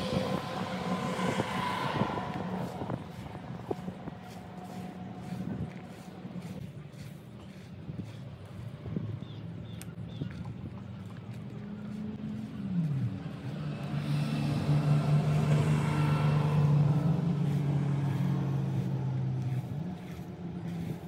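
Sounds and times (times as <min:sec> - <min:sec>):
vehicle engine passing by: 0:00.0 - 0:07.7, 0:11.1 - 0:21.0.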